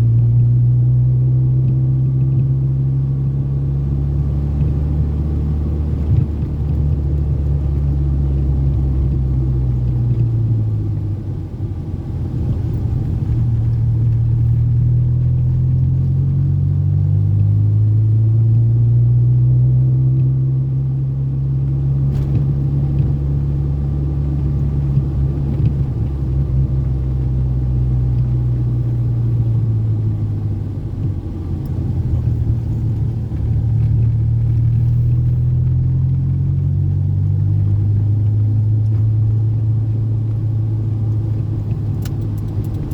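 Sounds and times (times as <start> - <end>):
car engine drone: 0.0 - 42.9
road rumble: 0.0 - 42.9.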